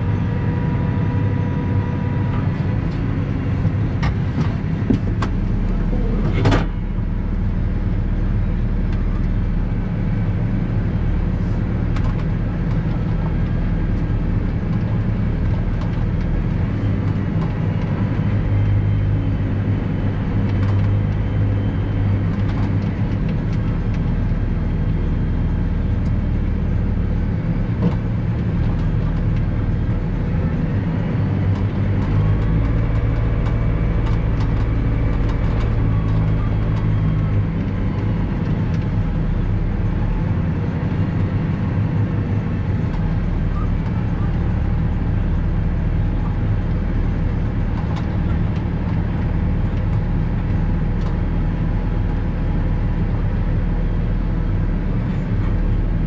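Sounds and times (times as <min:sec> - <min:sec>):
tractor diesel engine drone: 0:00.0 - 0:56.0.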